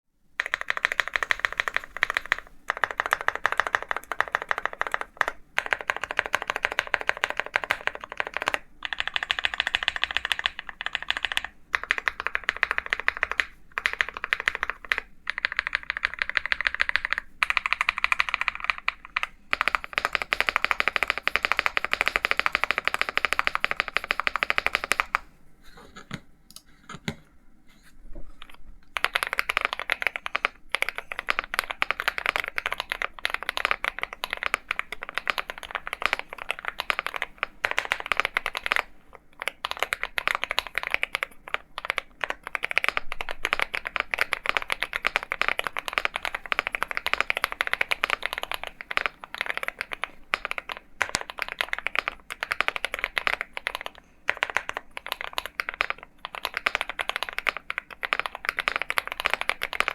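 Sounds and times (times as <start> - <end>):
typing on mechanical keyboard: 0.4 - 25.3, 28.4 - 59.9.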